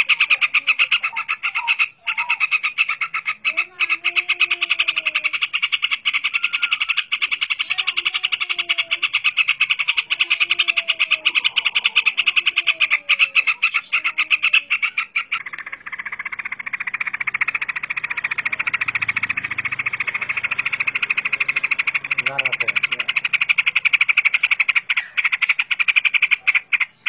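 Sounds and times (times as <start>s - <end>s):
pulsing animal chorus: 0.0s - 27.0s.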